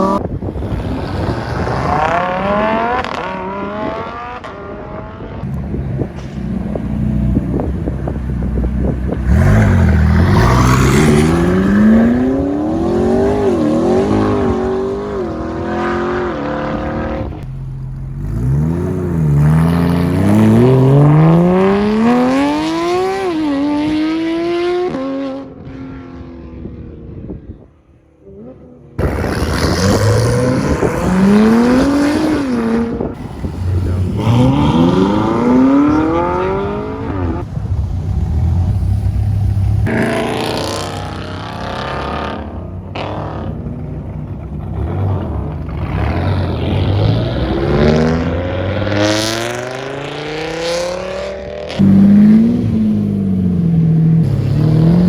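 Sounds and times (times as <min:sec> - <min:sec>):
sports car engines accelerating: 0:00.0 - 0:27.6, 0:28.2 - 0:55.0.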